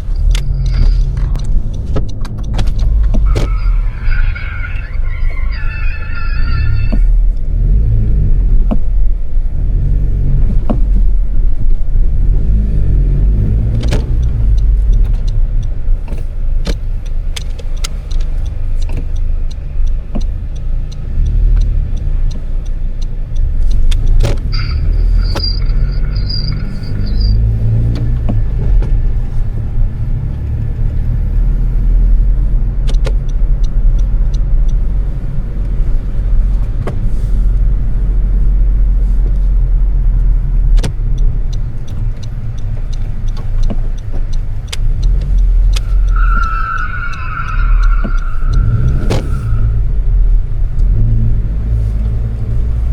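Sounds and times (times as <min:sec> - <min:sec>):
car engine rumbling: 0:00.0 - 0:52.9.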